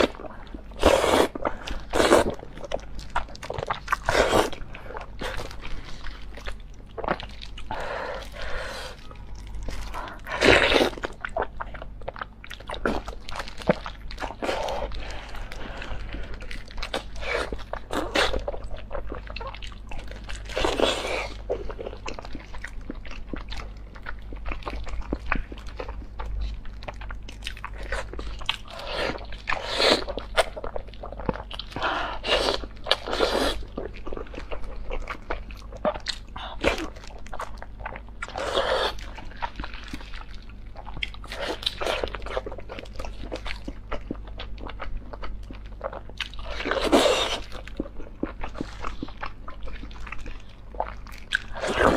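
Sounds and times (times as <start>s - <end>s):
wet chewing and smacking: 0.0s - 51.9s.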